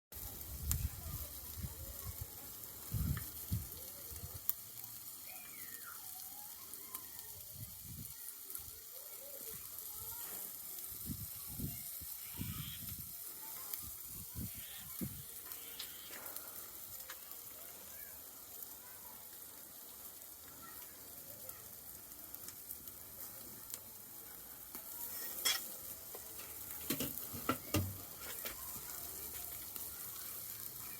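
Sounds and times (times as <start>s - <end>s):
fish sizzling in oil: 0.2s - 30.9s.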